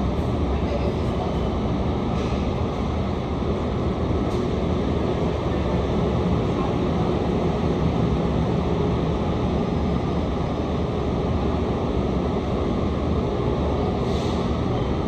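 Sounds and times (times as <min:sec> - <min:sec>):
train rumbling slowly: 0:00.0 - 0:15.0.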